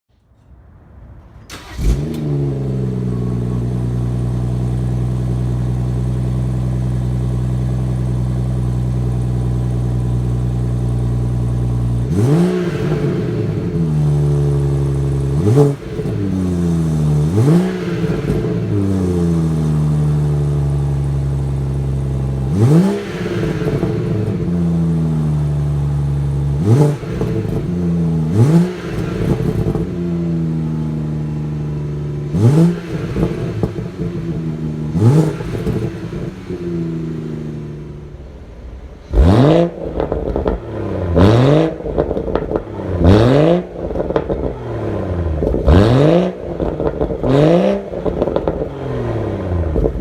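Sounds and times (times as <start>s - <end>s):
car engine starting and idling: 0.4s - 50.0s
car engine revving: 1.5s - 50.0s.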